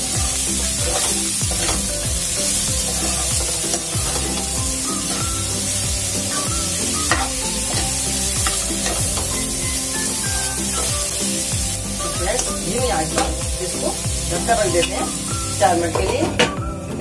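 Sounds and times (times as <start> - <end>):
steel spoon stirring and scraping: 0.0 - 16.3
food sizzling in hot oil: 0.0 - 17.0.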